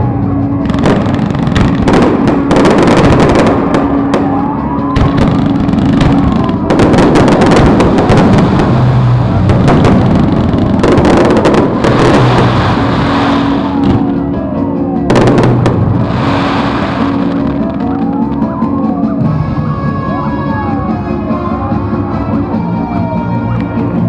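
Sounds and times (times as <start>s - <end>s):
fireworks bangs and crackling: 0.0s - 19.7s.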